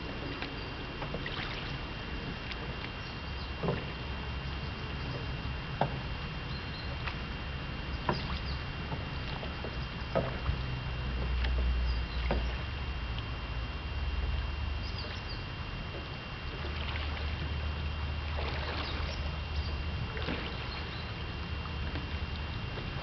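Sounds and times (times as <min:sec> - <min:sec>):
steady low rumble: 0:00.0 - 0:23.0
water splashing around a boat: 0:00.0 - 0:23.0.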